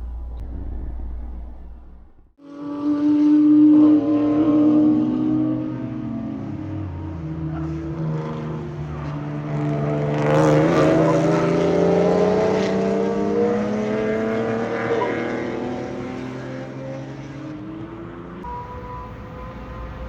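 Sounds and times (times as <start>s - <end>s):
race car engines accelerating: 0.0s - 20.0s.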